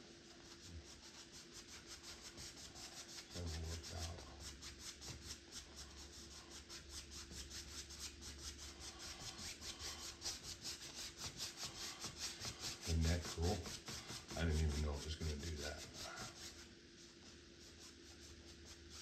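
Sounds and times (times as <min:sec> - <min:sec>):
paintbrush scrubbing on canvas: 0:00.0 - 0:19.0.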